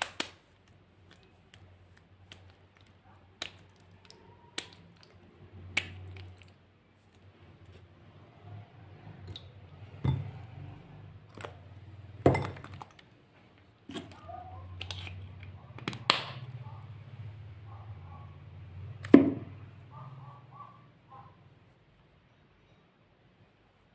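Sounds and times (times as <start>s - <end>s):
low steady hum: 0.5s - 23.9s.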